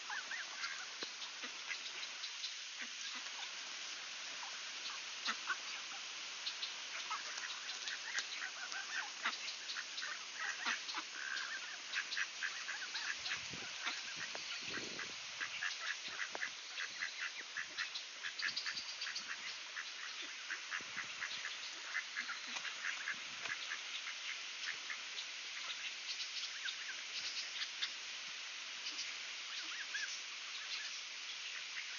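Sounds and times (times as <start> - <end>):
ducks quacking: 0.0 - 3.6, 4.3 - 27.9.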